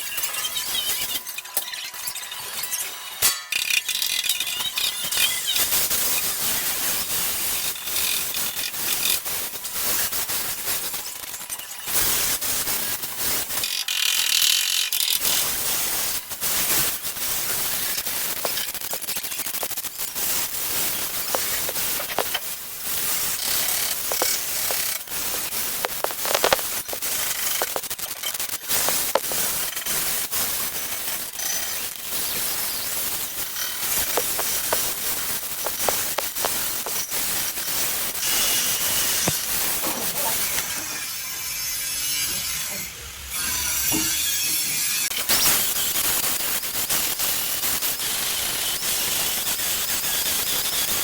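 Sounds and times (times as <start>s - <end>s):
welding arc crackling: 0.0s - 51.0s.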